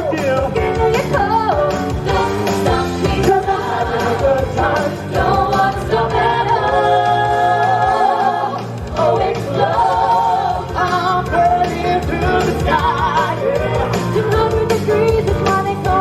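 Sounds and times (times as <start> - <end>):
pop song sung by group: 0.0 - 16.0.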